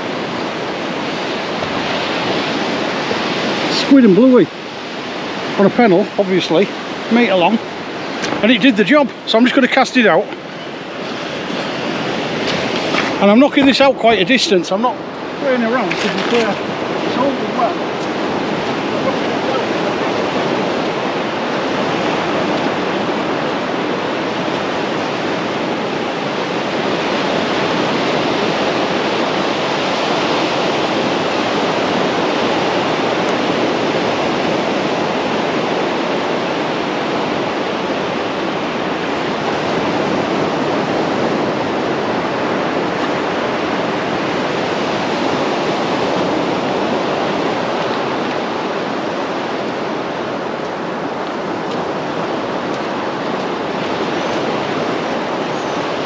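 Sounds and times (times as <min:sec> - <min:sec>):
surf breaking on shore: 0:00.0 - 0:56.0.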